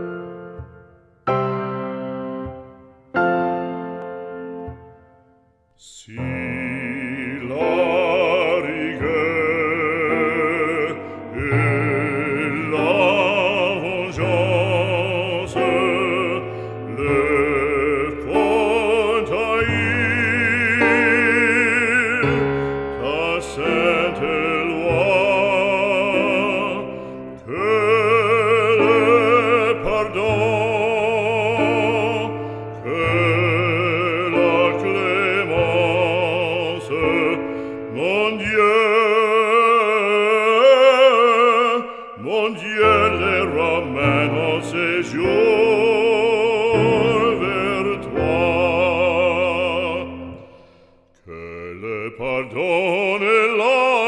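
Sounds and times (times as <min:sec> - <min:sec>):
operatic singing: 0:03.9 - 0:54.0.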